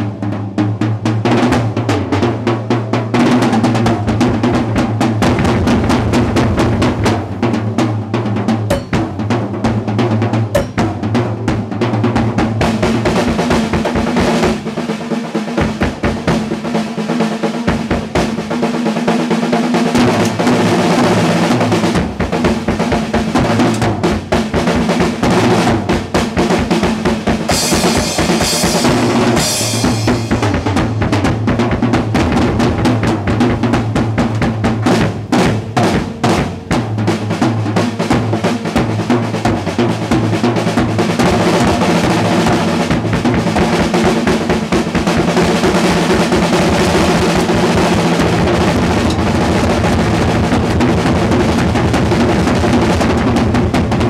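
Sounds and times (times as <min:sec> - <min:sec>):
drum solo: 0:00.0 - 0:54.0.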